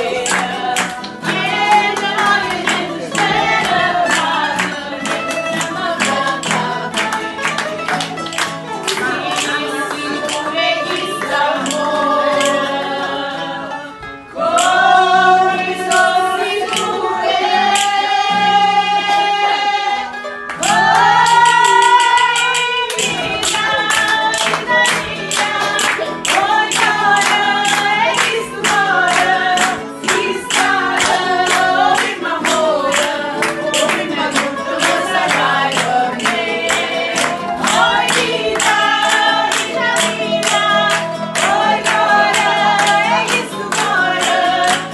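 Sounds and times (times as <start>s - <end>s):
hand claps: 0.0s - 13.3s, 14.5s - 18.4s, 20.4s - 44.9s
acoustic guitar: 0.0s - 44.9s
group singing folk song: 0.0s - 44.9s
mandolin: 0.0s - 44.9s.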